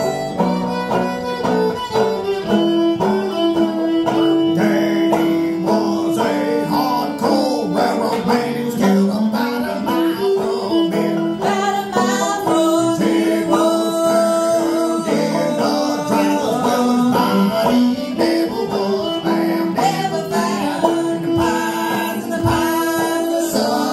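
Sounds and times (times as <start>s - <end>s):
banjo picking: 0.0s - 23.9s
fiddle playing: 0.0s - 23.9s.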